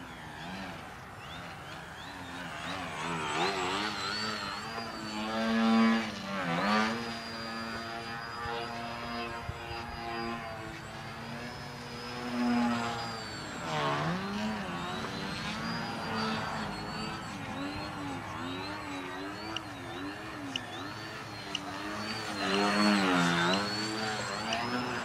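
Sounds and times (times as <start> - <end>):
model plane motor buzzing: 0.0 - 25.0
thin high whine: 0.0 - 25.0.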